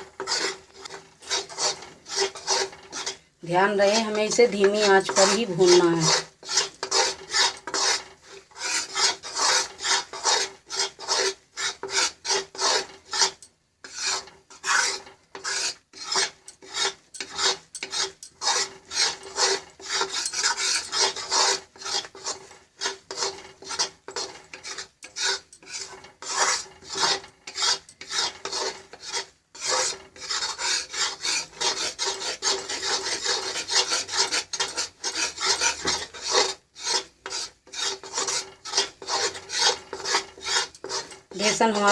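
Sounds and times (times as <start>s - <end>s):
spatula scraping and stirring in a pan: 0.0s - 41.9s.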